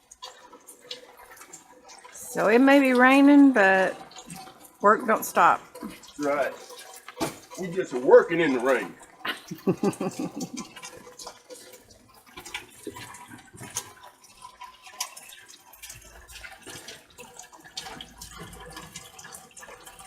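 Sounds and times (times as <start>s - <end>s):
patter of water drops: 0.0s - 20.0s
rain falling: 0.0s - 20.0s.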